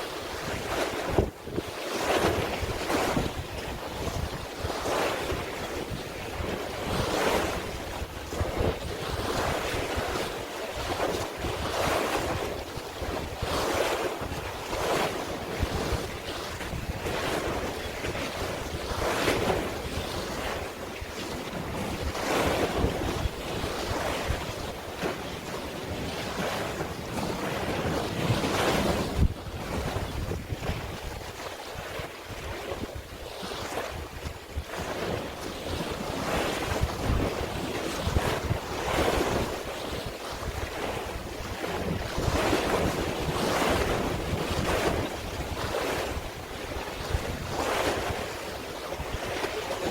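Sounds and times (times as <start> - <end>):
sea waves washing in: 0.0 - 49.9
wind buffeting microphone: 0.0 - 49.9.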